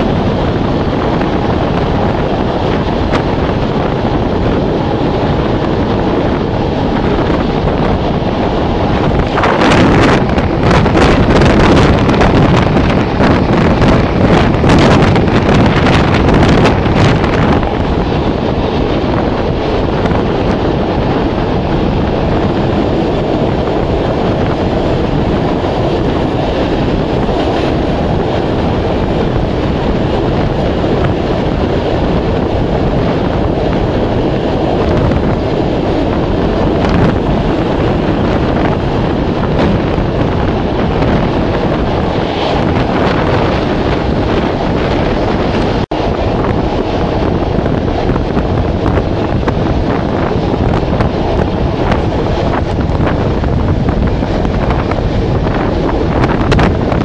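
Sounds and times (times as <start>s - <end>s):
train running noise: 0.0s - 57.0s
wind rushing over microphone: 0.0s - 57.0s.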